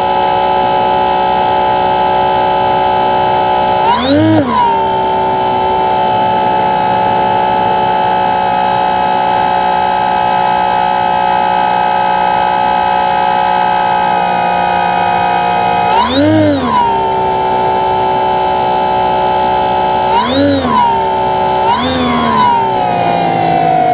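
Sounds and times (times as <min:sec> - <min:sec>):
model plane motor whining: 0:00.0 - 0:23.9.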